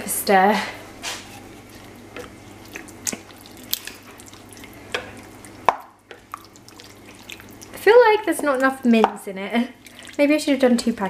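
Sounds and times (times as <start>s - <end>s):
spoon stirring wet mixture in pan: 1.0s - 10.9s.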